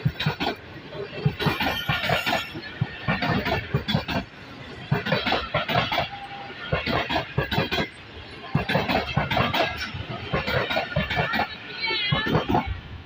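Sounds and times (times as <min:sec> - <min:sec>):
train wheels clattering over rails: 0:00.0 - 0:12.9.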